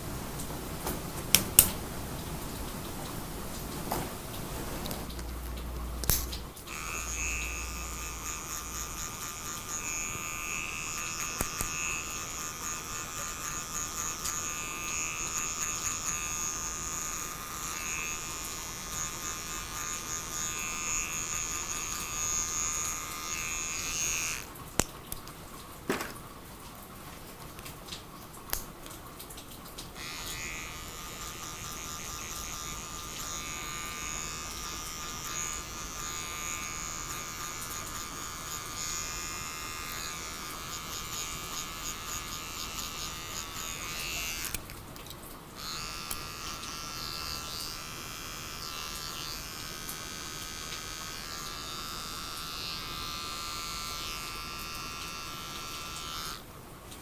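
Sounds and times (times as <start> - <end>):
electric hair clippers buzzing: 0.2 - 24.6, 30.0 - 44.8, 45.6 - 56.5.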